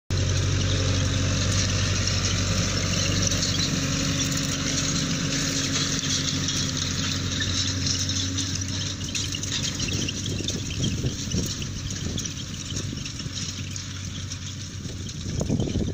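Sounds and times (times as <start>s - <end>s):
tractor diesel engine running: 0.1s - 15.9s.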